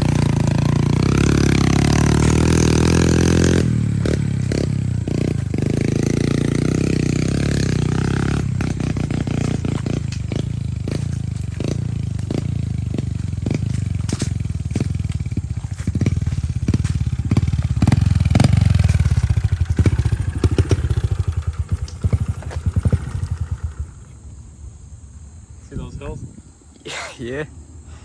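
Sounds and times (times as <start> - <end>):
small motorcycle engine under load: 0.0 - 24.5.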